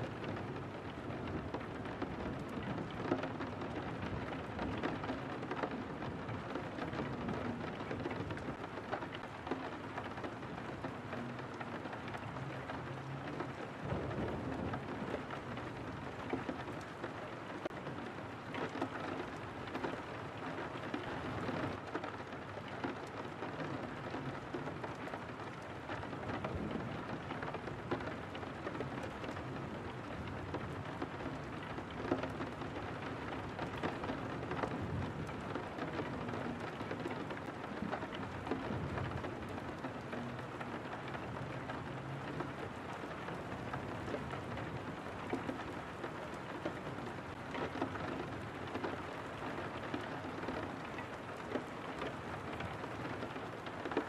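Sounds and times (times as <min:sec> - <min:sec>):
rain drops ticking on glass: 0:00.0 - 0:54.0.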